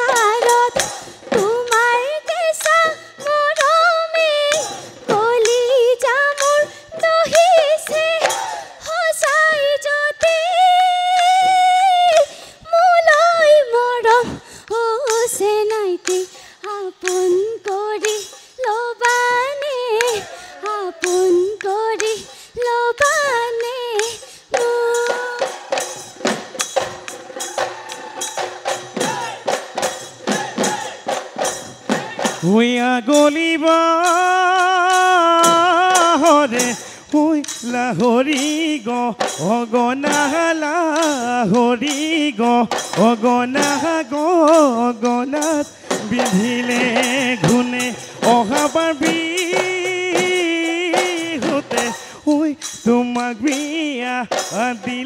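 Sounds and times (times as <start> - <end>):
drums played fast: 0.0 - 55.0
jingling percussion: 0.0 - 55.0.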